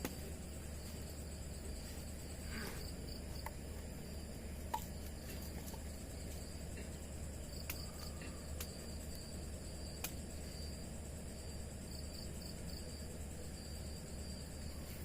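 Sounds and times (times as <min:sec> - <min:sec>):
crickets and insects chirping: 0:00.0 - 0:15.0
steady low hum: 0:00.0 - 0:15.0.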